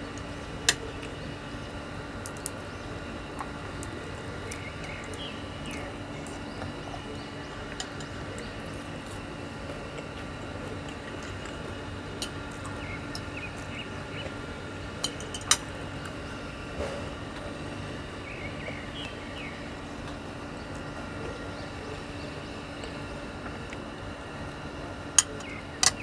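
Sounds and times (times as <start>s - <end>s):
background hum: 0.0s - 26.0s.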